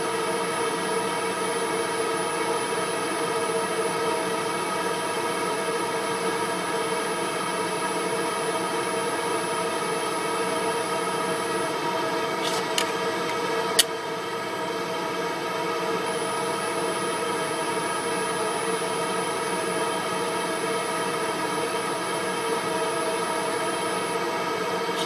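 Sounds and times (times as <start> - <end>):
laser machine humming: 0.0 - 25.0.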